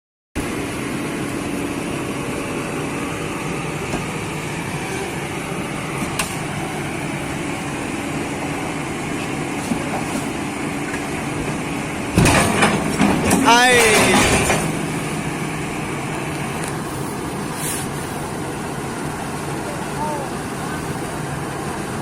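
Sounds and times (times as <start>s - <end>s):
diesel engine running: 0.4s - 22.0s.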